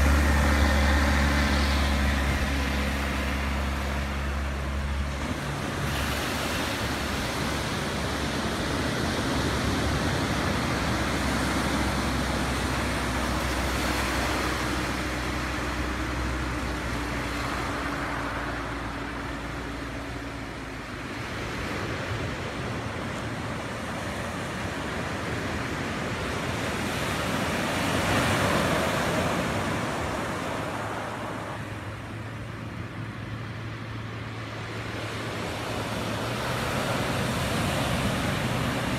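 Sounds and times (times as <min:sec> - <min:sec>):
light plane engine drone: 0:00.0 - 0:38.9
surf on gravel beach: 0:00.0 - 0:38.9.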